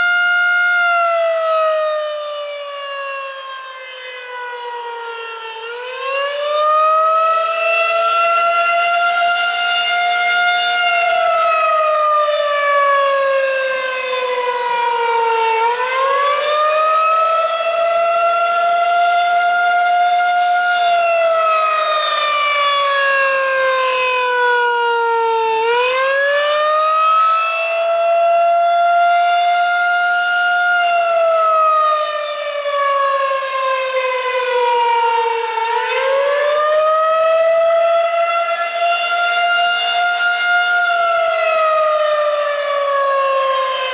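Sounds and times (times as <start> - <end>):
rising and falling warning siren: 0.0 - 43.9.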